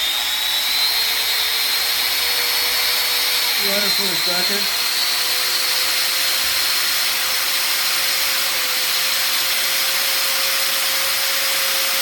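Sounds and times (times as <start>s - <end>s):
angle grinder running free: 0.0s - 12.0s.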